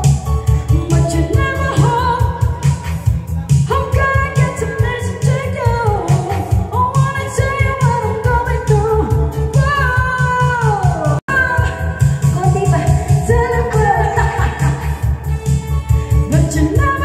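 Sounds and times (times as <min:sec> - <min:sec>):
women singing pop song: 0:00.0 - 0:15.4, 0:16.1 - 0:17.0
backing track with bass beat: 0:00.0 - 0:17.0.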